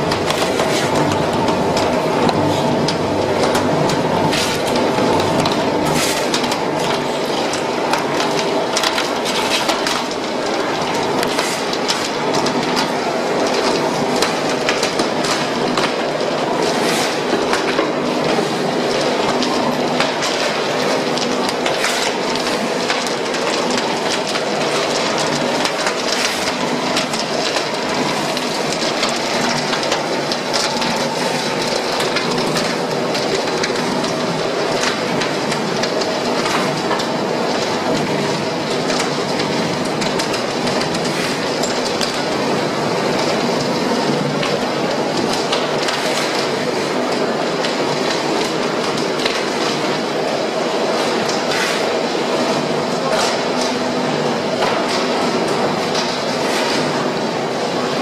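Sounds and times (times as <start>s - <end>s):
motor and gearbox hum: 0.0s - 58.0s
rattling drum machinery: 0.0s - 58.0s.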